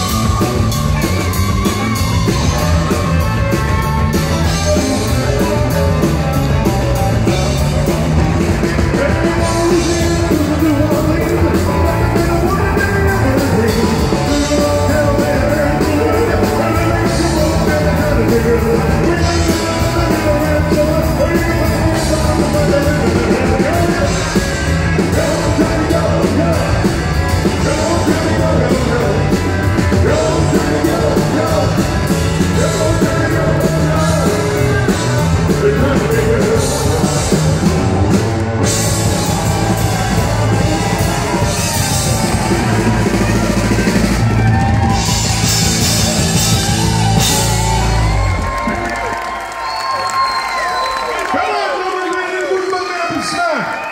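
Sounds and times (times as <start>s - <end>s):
man singing: 0.0s - 44.0s
drum kit beat: 0.0s - 48.9s
electric guitar: 0.0s - 50.8s
bass guitar: 0.0s - 51.0s.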